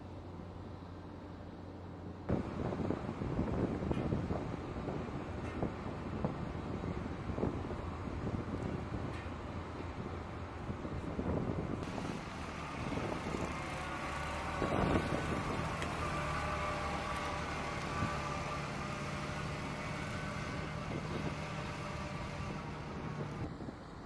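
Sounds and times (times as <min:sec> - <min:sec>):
truck engine running: 0:01.8 - 0:24.0.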